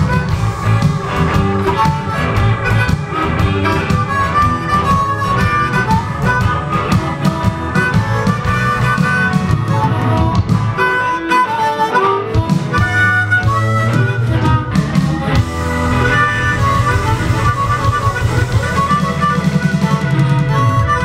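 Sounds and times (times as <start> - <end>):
backing music with bass and drums: 0.0 - 21.0
harmonica melody: 0.0 - 21.0.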